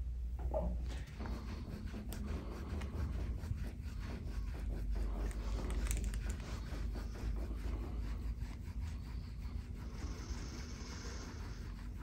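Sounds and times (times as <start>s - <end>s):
hands rubbing on skin and clothing: 0.9s - 12.0s.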